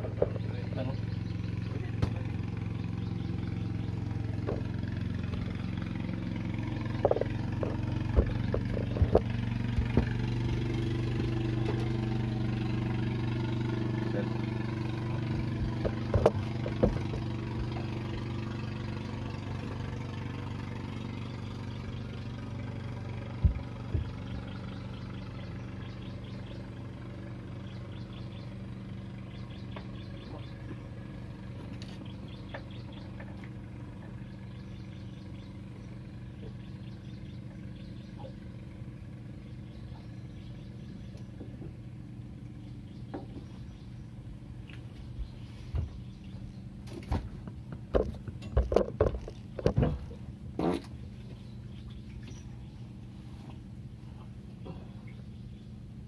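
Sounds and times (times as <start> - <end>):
motor boat engine running: 0.0 - 56.0.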